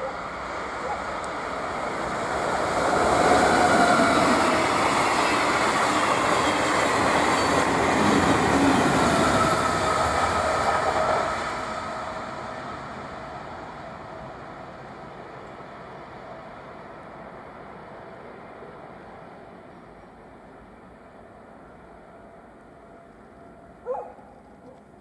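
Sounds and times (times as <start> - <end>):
train passing at speed: 0.0 - 24.4.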